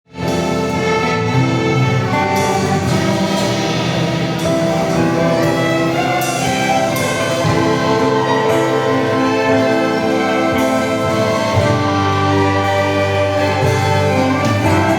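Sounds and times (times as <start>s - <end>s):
bowed strings holding chords: 0.1s - 14.9s.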